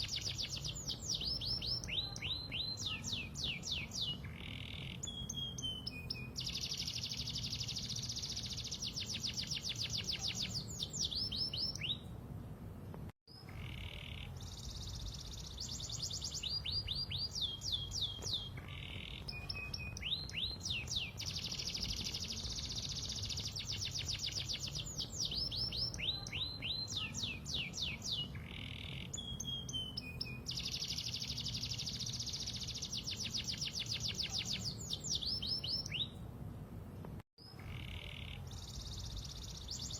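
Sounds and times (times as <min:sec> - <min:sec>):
canary singing: 0:00.0 - 0:12.1, 0:13.4 - 0:36.2.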